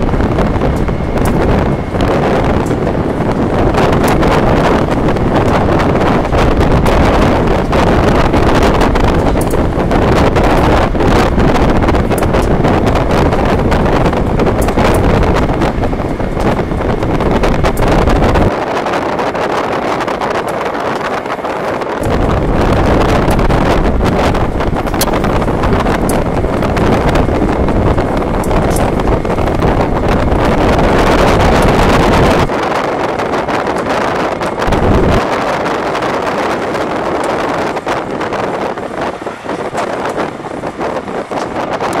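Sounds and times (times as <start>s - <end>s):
vehicle traffic rumble: 0.0s - 42.0s
wind buffeting microphone: 0.0s - 42.0s.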